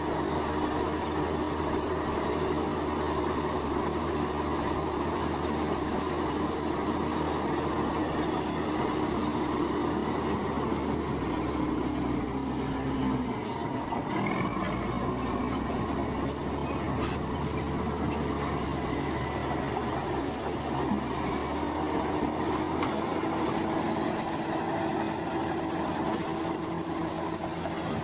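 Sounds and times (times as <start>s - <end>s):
constant machine whine: 0.0s - 28.0s
diesel engine drone: 0.0s - 28.0s.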